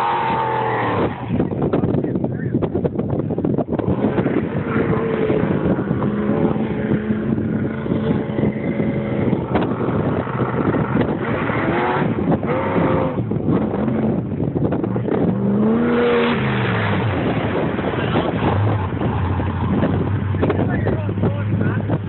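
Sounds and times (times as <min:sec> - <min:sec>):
loud vehicle engines revving: 0:00.0 - 0:22.0.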